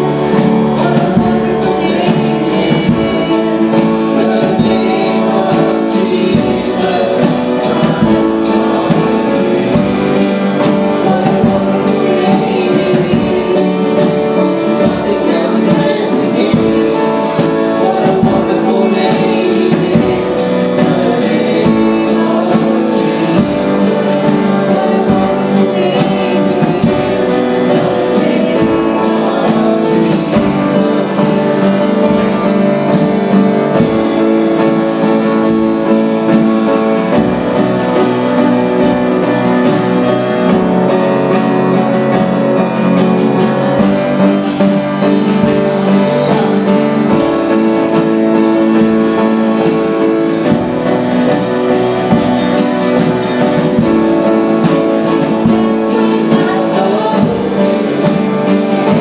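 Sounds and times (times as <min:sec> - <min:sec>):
drums playing: 0:00.0 - 0:59.0
guitar: 0:00.0 - 0:59.0.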